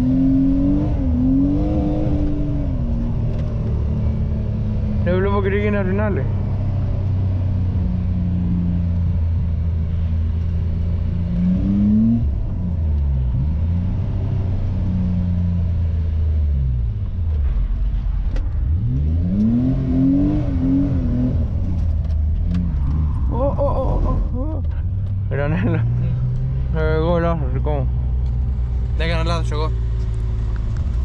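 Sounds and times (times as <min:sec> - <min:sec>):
car engine pulling hard: 0:00.0 - 0:31.0.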